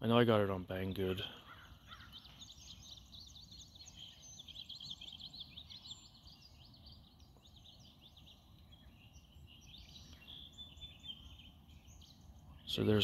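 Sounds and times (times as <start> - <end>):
faint low background noise: 0.0 - 13.0
songbirds chirping: 0.0 - 13.0.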